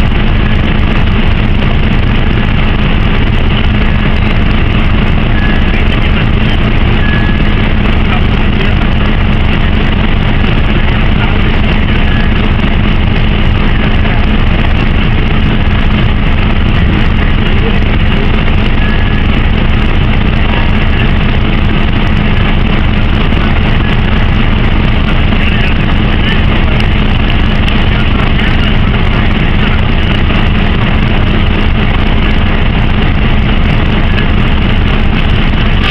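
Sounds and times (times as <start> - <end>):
engines and machinery droning: 0.0 - 35.9.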